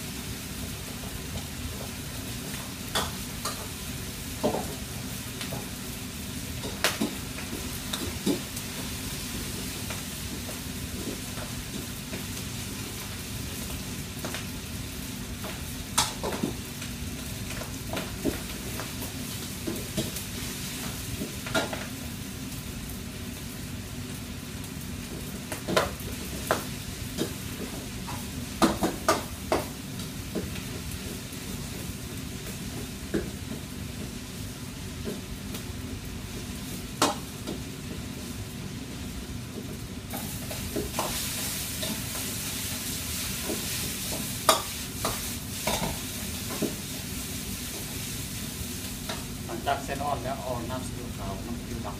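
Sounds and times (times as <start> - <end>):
food sizzling in woks: 0.0 - 51.9
low steady gas range noise: 0.0 - 51.9.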